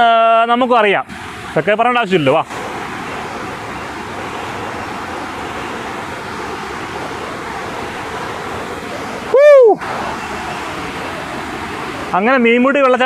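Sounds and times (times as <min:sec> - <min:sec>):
waterfall rushing: 0:00.8 - 0:13.0.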